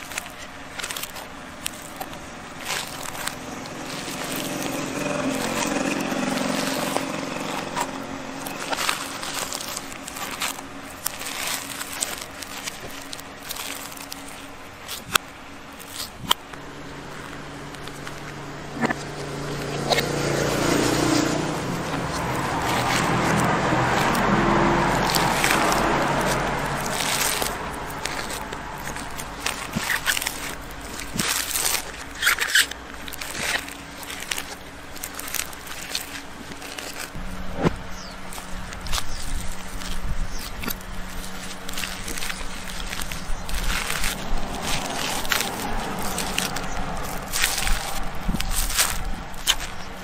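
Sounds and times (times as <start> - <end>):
knife cutting coconut husk: 0.0 - 50.0
low vehicle-like rumble: 0.0 - 50.0.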